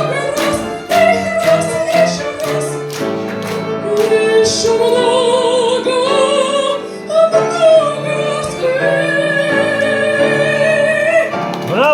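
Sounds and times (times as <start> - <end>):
woman singing with vibrato: 0.0 - 3.0, 3.7 - 11.3
instrumental accompaniment: 0.0 - 11.9.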